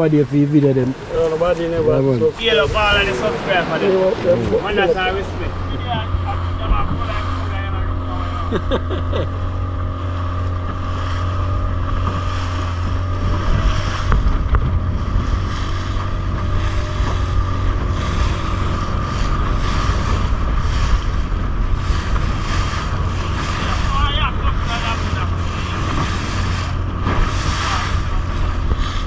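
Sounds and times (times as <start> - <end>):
wind buffeting microphone: 0.0 - 8.6, 9.3 - 29.0
motorboat engine running: 0.0 - 29.0
water rushing past hull: 0.0 - 29.0.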